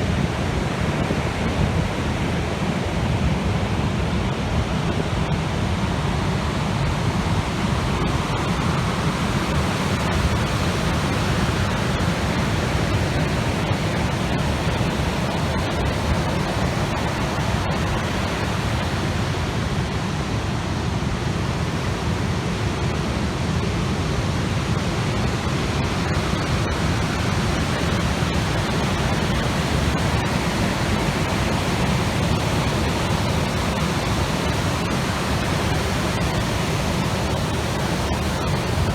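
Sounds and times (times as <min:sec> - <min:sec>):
rushing wind: 0:00.0 - 0:38.9.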